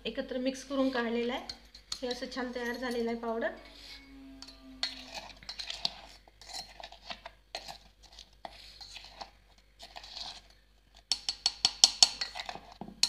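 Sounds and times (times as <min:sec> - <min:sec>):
spoon scraping metal jar: 0:00.7 - 0:12.8.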